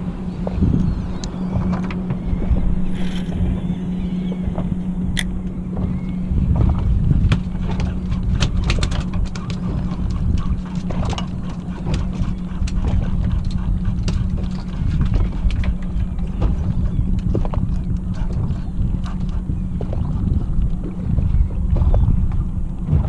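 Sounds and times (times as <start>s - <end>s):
boat motor humming: 0.0s - 23.0s
water slapping against hull: 0.0s - 23.0s.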